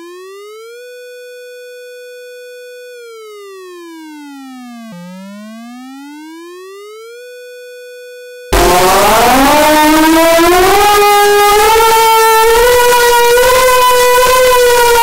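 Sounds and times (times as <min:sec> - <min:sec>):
electronic siren wail: 0:00.0 - 0:15.0.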